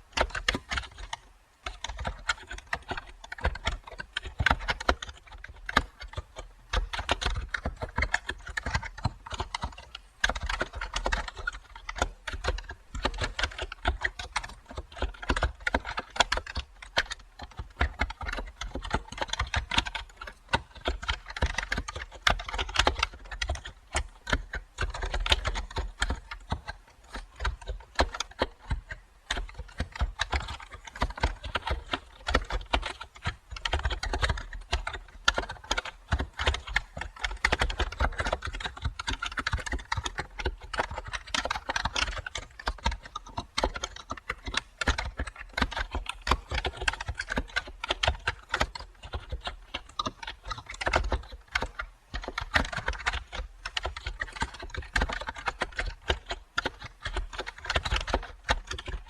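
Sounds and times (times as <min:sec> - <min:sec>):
keyboard typing: 0:00.0 - 0:59.0.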